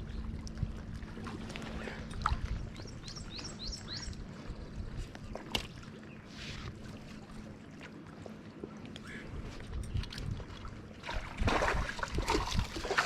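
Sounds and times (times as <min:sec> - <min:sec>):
water noise: 0:00.0 - 0:13.0
wind: 0:00.0 - 0:13.0.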